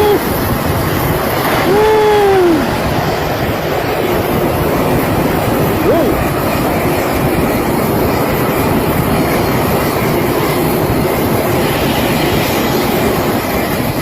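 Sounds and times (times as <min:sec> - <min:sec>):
jet airliner roar: 0:00.0 - 0:14.0.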